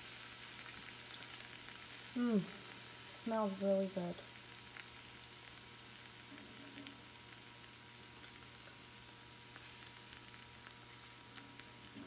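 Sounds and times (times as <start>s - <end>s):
crepe sizzling in a pan: 0.0s - 12.0s
small crackles: 0.0s - 12.0s.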